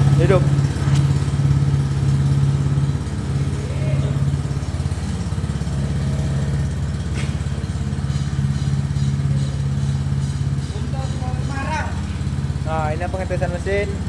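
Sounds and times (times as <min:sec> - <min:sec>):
petrol engine running: 0:00.0 - 0:14.0.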